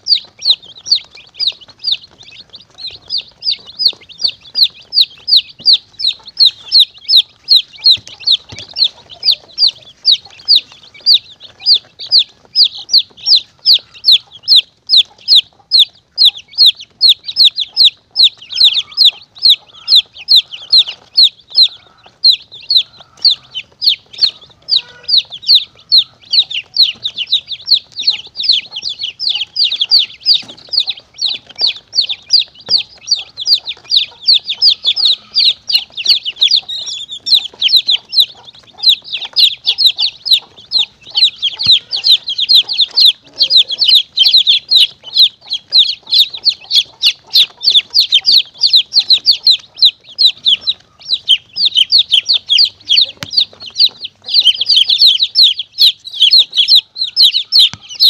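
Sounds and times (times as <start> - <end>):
chicks peeping in distress: 0.0 - 58.0.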